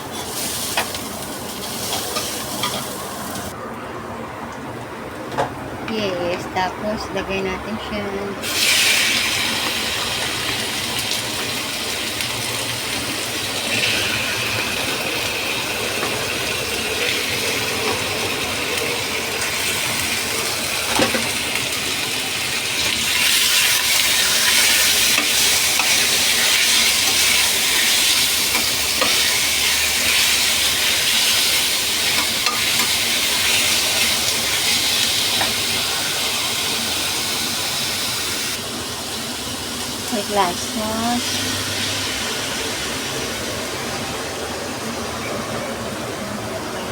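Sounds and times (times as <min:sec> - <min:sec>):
food sizzling in hot oil: 0:00.0 - 0:03.6, 0:08.4 - 0:43.9.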